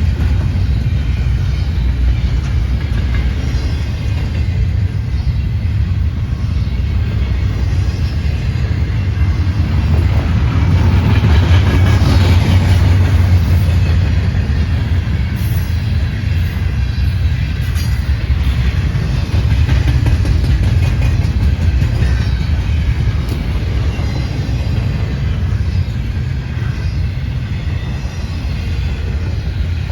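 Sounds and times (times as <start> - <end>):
train rumbling past: 0.0 - 29.9.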